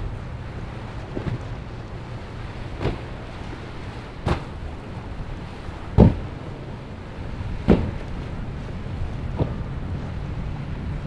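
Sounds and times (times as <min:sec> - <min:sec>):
hull slapping on waves: 0:00.0 - 0:11.0
motorboat engine drone: 0:00.0 - 0:11.0
wind noise: 0:00.0 - 0:11.0.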